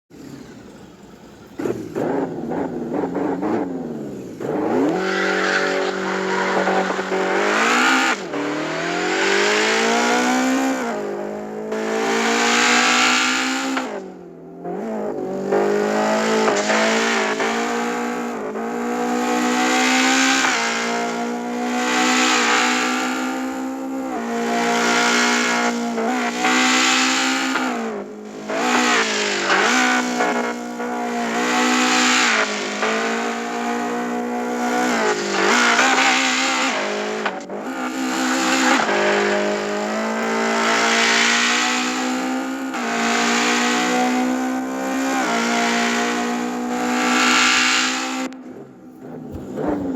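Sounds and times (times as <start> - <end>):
car engine revving hard: 1.6 - 49.9.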